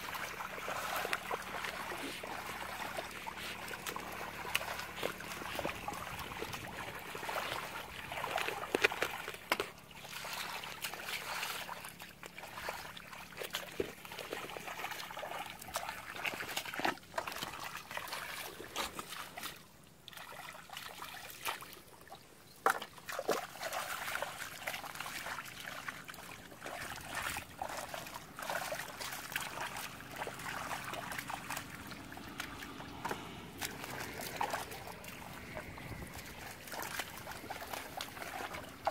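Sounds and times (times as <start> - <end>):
muddy water sloshing and splashing: 0.0 - 38.9.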